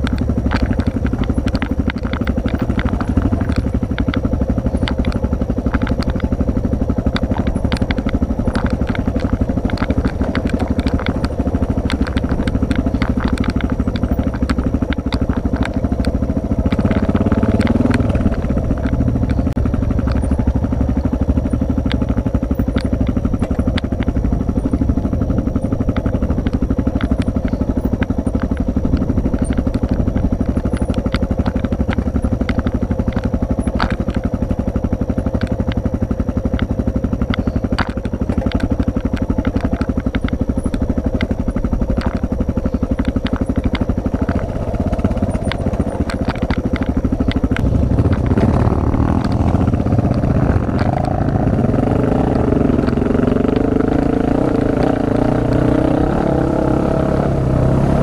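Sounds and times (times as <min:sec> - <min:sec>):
stones clicking: 0:00.0 - 0:20.5, 0:21.4 - 0:55.6
motorbike engine running: 0:00.0 - 0:58.0.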